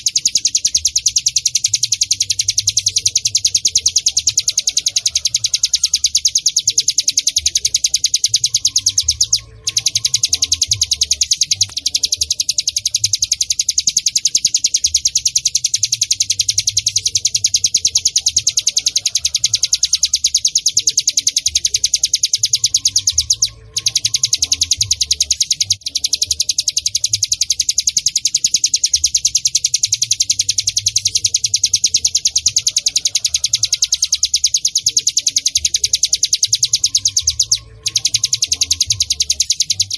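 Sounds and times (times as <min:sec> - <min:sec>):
bird rattling trill: 0:00.0 - 0:39.9.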